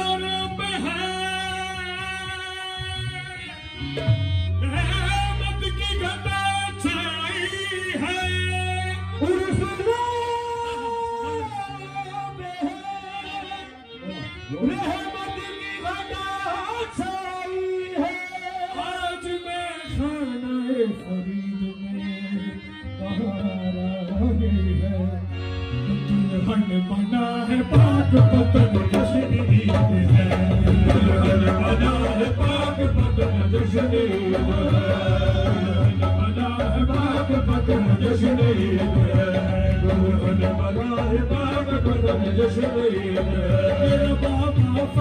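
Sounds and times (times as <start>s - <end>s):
harmonium drones: 0.0s - 45.0s
men singing into microphones: 0.0s - 45.0s.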